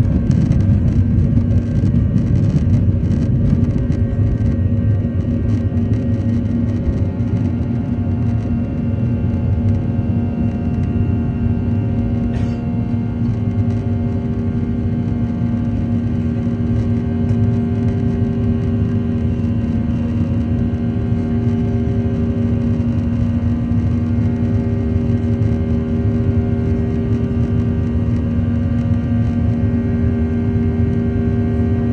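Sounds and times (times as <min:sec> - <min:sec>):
airliner engines rumbling: 0:00.0 - 0:31.9.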